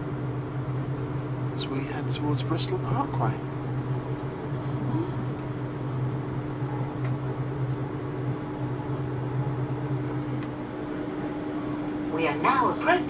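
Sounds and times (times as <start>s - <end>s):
train cabin running hum: 0.0s - 13.0s.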